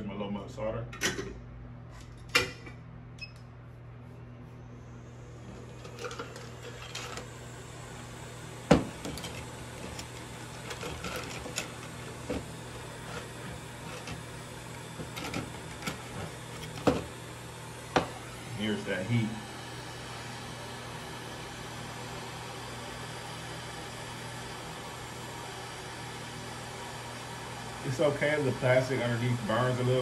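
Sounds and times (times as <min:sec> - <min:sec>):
bench equipment hum and hiss: 0:00.0 - 0:30.0.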